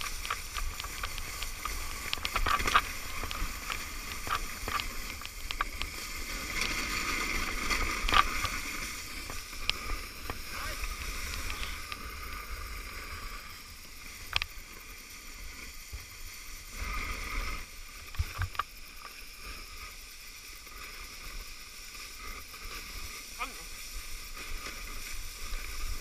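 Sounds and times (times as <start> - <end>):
sledge runners scraping snow: 0.0 - 26.0
wind rumbling on microphone: 0.0 - 26.0.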